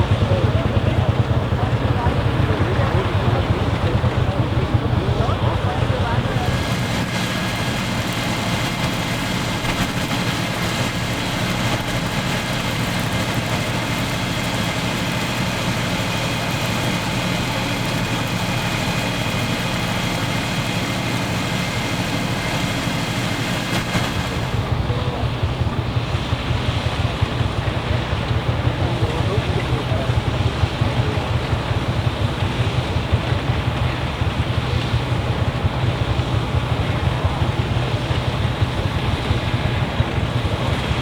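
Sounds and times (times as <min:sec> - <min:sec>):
combine machinery whine: 0:00.0 - 0:41.0
diesel tractor engine running: 0:00.0 - 0:41.0.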